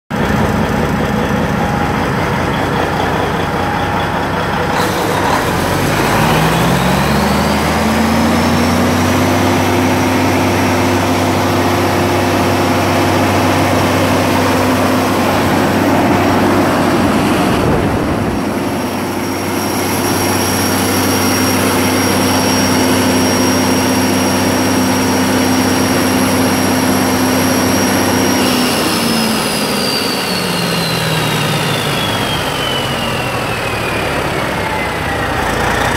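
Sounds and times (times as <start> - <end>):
diesel engine running: 0.1 - 35.9
high whine: 0.1 - 35.9.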